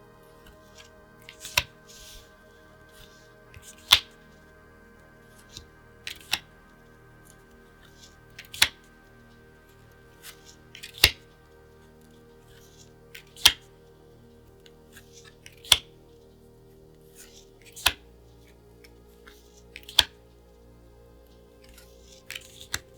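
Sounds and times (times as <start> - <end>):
soft background music: 0.0 - 22.9.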